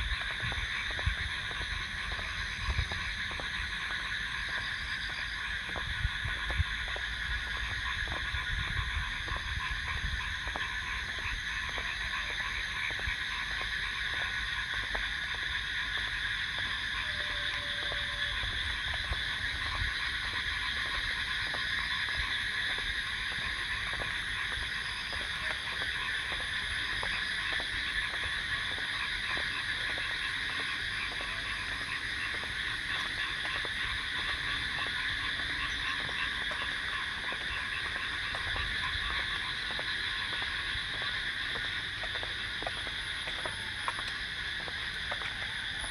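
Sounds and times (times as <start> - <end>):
crickets trilling: 0.0 - 45.9.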